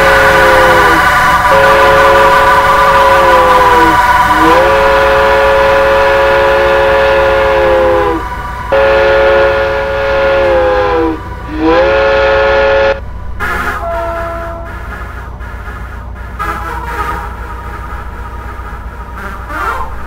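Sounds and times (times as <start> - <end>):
train horn chord blasts: 0.0 - 20.0.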